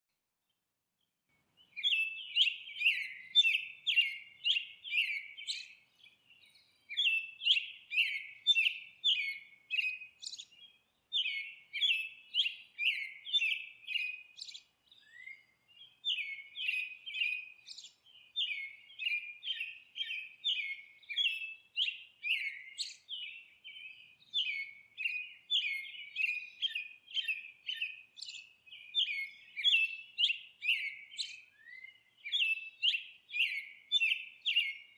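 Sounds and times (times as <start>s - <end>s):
bird chirping: 0.4s - 34.9s.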